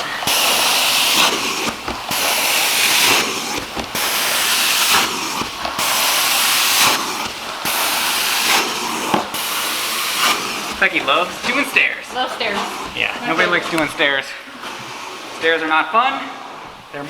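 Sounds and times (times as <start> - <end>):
carpet cleaning wand hissing: 0.0 - 17.0.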